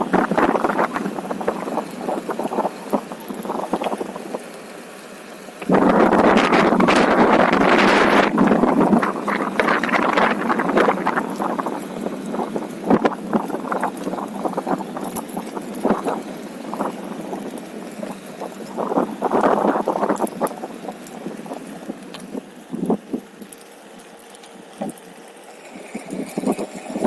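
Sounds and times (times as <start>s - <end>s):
wind buffeting microphone: 0.0s - 4.5s, 5.6s - 23.4s, 26.0s - 27.0s
electric board rolling on trail: 0.0s - 27.0s.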